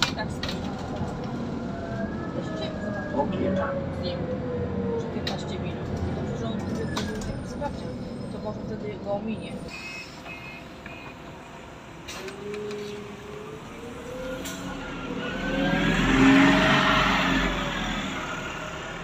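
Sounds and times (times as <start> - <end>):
bus engine accelerating: 0.0 - 19.0.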